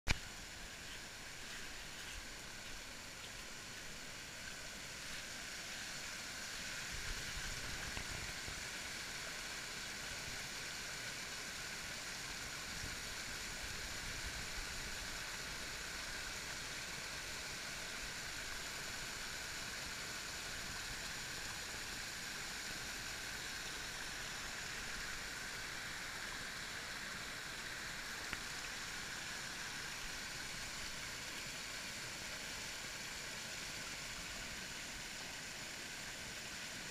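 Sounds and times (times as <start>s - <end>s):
creek water splashing over rocks: 0.1s - 36.9s.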